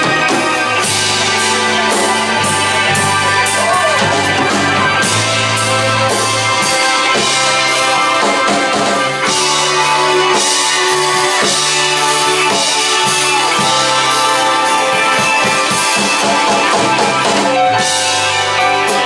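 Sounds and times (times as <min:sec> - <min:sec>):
drum kit beat: 0:00.0 - 0:19.0
electric guitar: 0:00.0 - 0:19.0.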